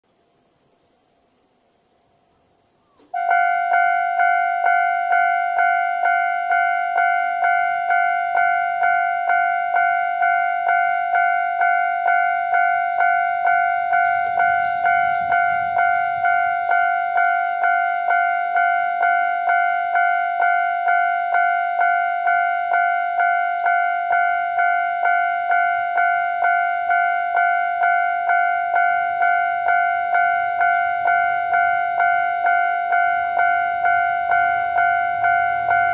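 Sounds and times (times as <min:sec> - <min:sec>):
level crossing warning bell: 0:03.2 - 0:35.9.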